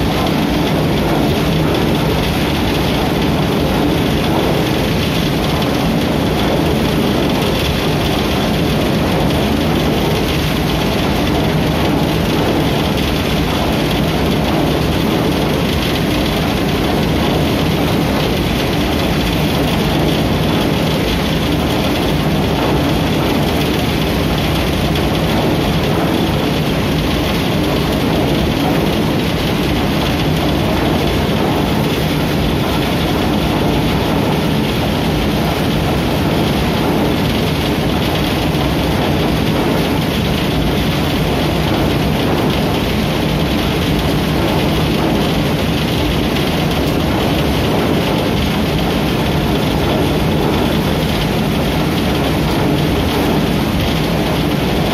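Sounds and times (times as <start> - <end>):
thresher machine running: 0.0 - 54.9.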